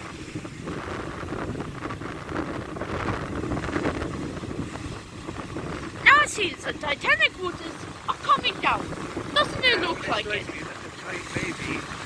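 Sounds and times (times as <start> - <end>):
heavy surf: 0.0 - 12.0
wind buffeting microphone: 0.0 - 12.0.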